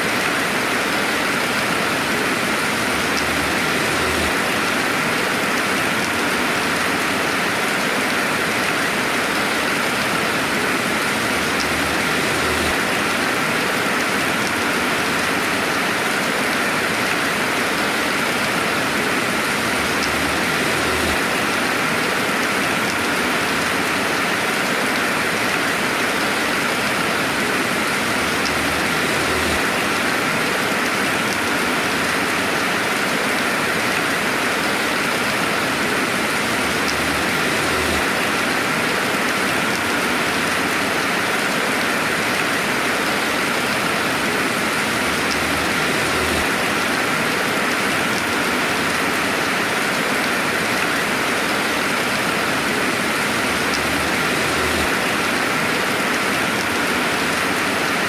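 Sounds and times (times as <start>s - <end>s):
steady rainfall: 0.0s - 58.0s
raindrop ticks: 2.9s - 15.5s, 16.1s - 26.3s, 27.2s - 42.6s, 44.7s - 51.0s, 51.9s - 55.4s.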